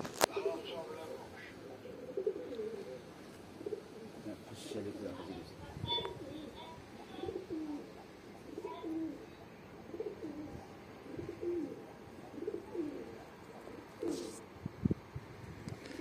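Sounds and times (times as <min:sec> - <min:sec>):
pigeons cooing: 0:00.0 - 0:14.6.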